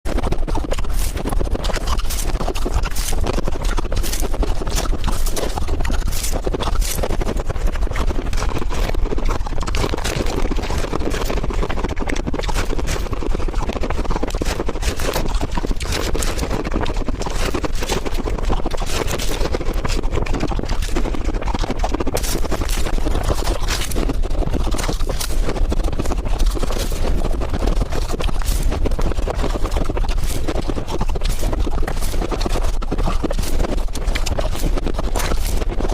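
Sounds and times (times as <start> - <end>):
ice crunching as chewed: 0.0 - 35.9.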